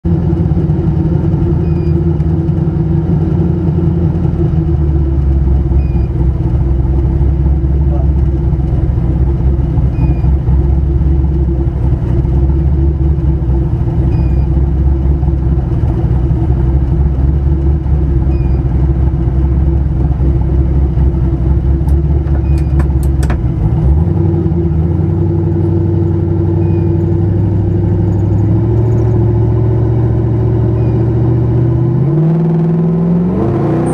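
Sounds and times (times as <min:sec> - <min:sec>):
car engine droning under load: 0:00.0 - 0:33.9.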